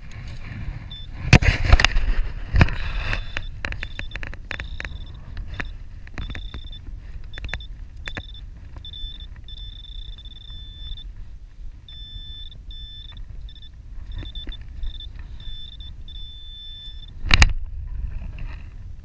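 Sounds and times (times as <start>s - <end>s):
wind rumbling on microphone: 0.0s - 19.0s
metal detector beeping: 0.8s - 1.9s, 2.7s - 17.3s.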